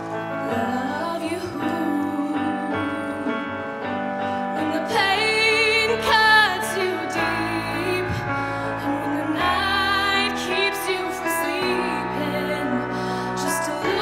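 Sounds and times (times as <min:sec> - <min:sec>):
piano accompaniment: 0:00.0 - 0:14.0
woman singing a slow ballad: 0:00.3 - 0:14.0.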